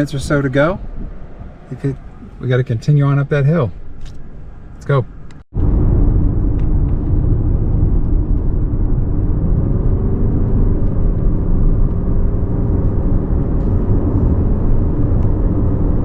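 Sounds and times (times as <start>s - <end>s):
car engine hum: 0.0s - 16.0s
tyre and road noise: 0.0s - 16.0s.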